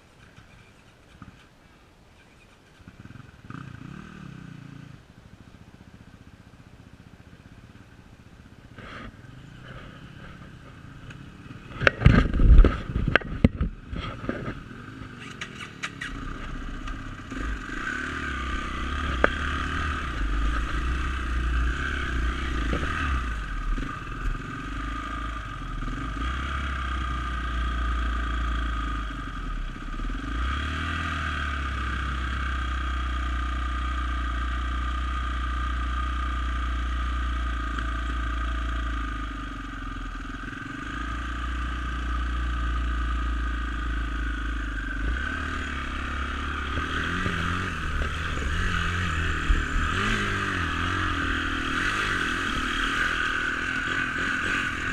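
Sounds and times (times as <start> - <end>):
dirt bike engine running: 5.8 - 54.9.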